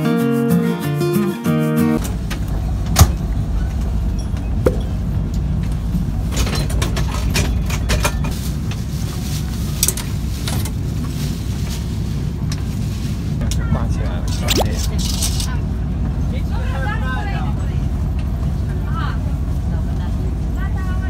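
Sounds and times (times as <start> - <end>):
moving train rumble: 2.0 - 21.0.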